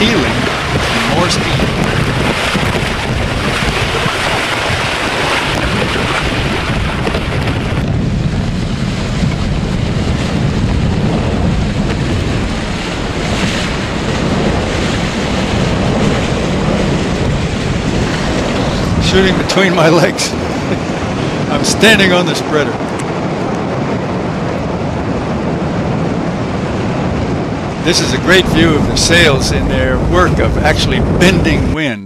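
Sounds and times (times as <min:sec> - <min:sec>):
water rushing past hulls: 0:00.0 - 0:32.0
wind buffeting microphone: 0:00.0 - 0:32.0.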